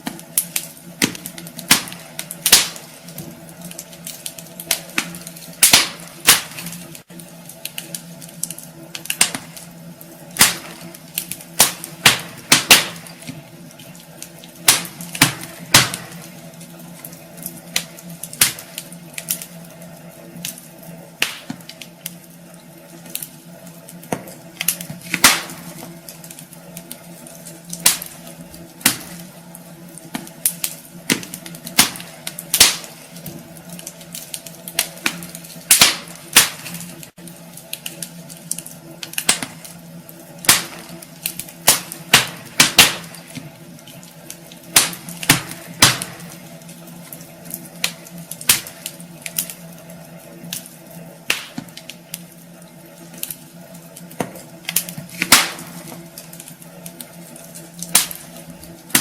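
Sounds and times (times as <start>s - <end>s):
steady low hum: 0.0s - 59.0s
wood fire crackling and popping: 0.0s - 59.0s.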